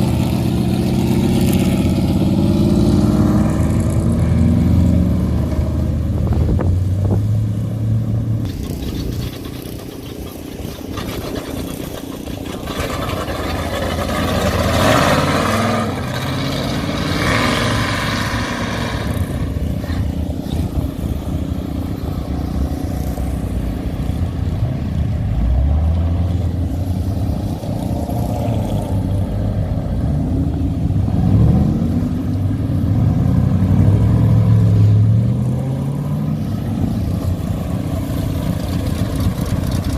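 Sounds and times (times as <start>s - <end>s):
cars driving past: 0.0s - 39.9s
engine revving: 0.0s - 39.9s.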